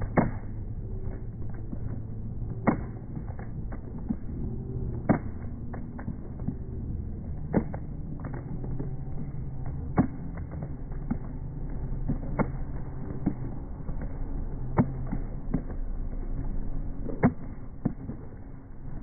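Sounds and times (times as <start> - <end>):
low rumble of street noise: 0.0 - 19.0
slowed running footsteps on asphalt: 0.0 - 19.0.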